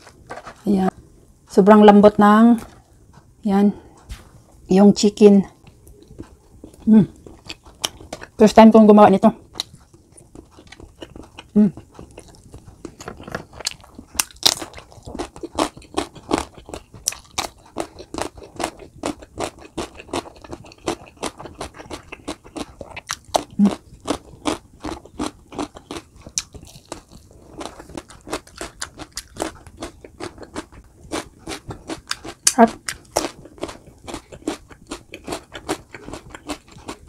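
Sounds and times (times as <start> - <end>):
crunchy chewing: 5.5 - 8.4, 9.4 - 37.0.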